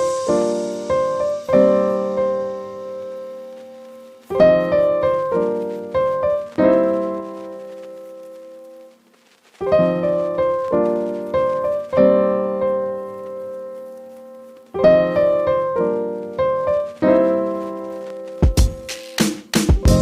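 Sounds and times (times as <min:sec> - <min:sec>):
piano music: 0:00.0 - 0:08.6, 0:09.7 - 0:20.0.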